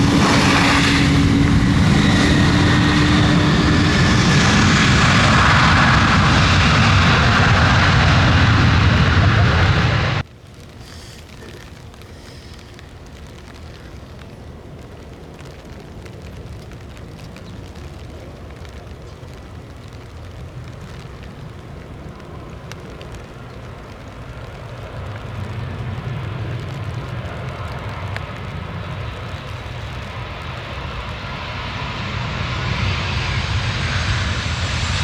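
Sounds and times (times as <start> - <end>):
jet airliner engines: 0.0 - 35.0
wind rumbling on microphone: 0.0 - 35.0.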